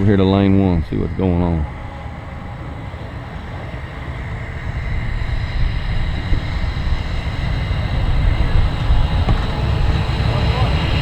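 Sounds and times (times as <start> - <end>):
faint steady whine: 0.0 - 11.0
low engine rumble: 0.0 - 11.0.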